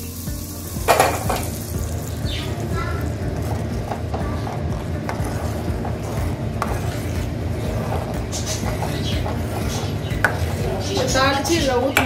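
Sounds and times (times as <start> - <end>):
ladle stirring in metal pot: 0.2 - 12.0
steady low rumble: 1.6 - 11.8.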